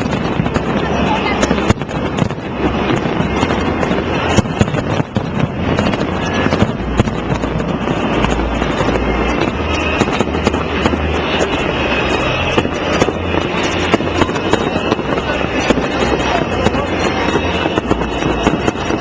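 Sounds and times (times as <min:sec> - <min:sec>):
fireworks cracks and pops: 0:00.0 - 0:19.0
low rumble: 0:00.0 - 0:19.0.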